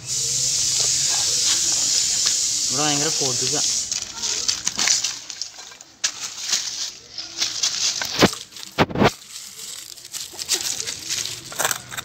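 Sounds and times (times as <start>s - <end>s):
gritty crunching of rock dust: 0.7s - 12.0s.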